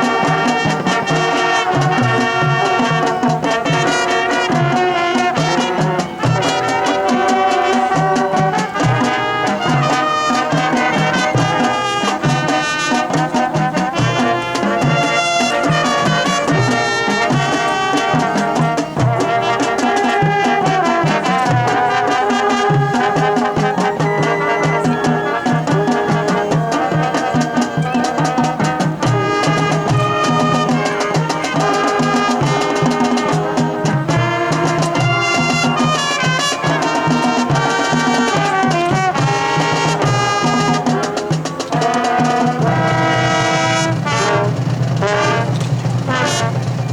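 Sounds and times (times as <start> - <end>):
marching band playing: 0.0 - 46.9
steady percussion: 0.0 - 46.9
trumpets and trombones: 0.0 - 46.9.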